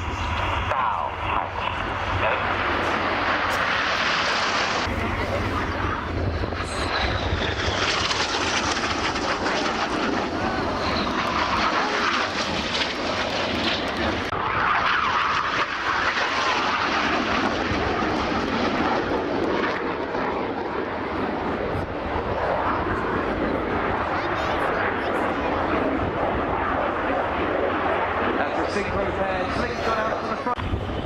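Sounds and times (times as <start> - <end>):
jet aircraft passing: 0.0 - 31.0.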